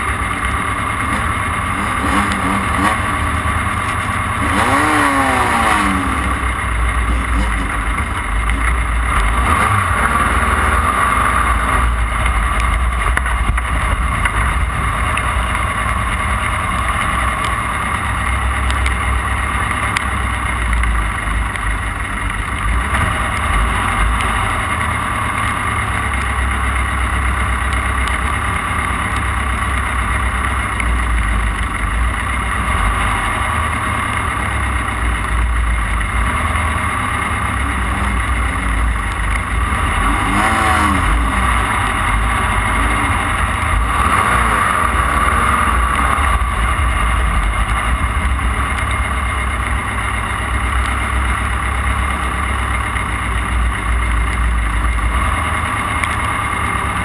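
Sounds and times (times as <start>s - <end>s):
heavy low rumble: 0.0s - 57.0s
race car engine running hard: 0.0s - 57.0s.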